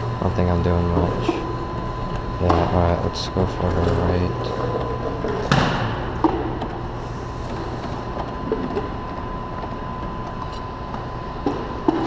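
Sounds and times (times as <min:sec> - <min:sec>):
claw machine humming: 0:00.0 - 0:12.0.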